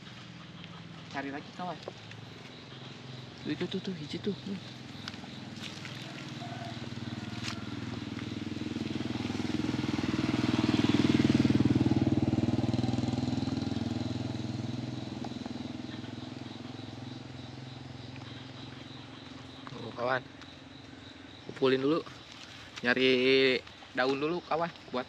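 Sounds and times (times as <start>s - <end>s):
motorcycle passing by: 0.0s - 21.3s.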